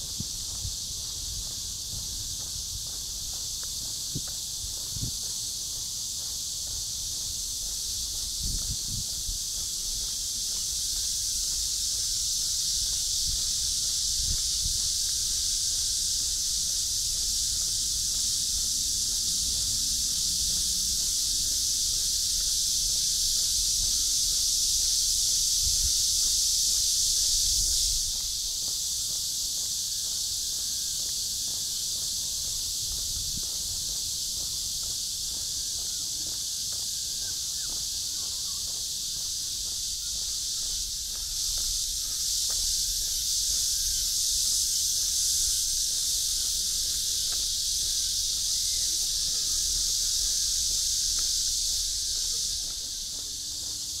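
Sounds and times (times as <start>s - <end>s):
shrill insect chorus: 0.0s - 54.0s.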